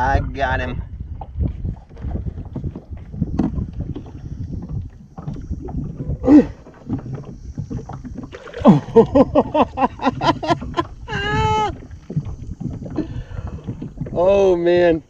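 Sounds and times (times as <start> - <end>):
knocking and bumping on kayak hull: 0.7 - 15.0.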